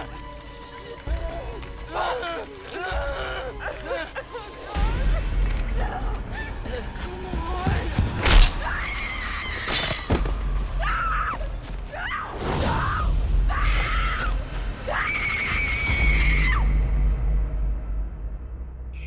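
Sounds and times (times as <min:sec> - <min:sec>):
dark horror film score: 0:00.0 - 0:19.0.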